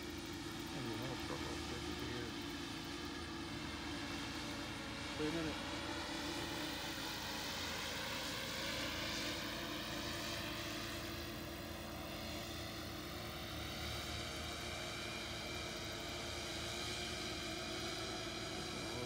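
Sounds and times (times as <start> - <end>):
electric motors and propellers whine: 0.0 - 19.0.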